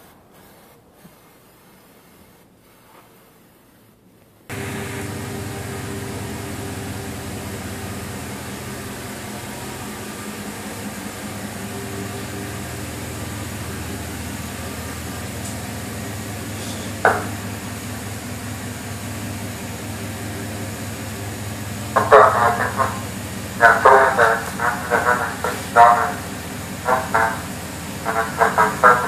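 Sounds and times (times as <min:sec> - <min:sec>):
pickup engine idling: 0:04.5 - 0:29.0.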